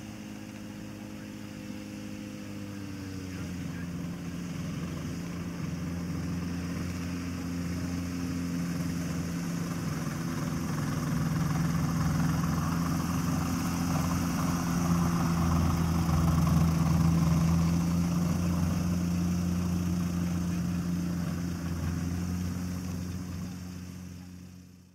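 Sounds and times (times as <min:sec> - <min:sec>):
light aircraft engine and propeller: 0:00.0 - 0:24.9.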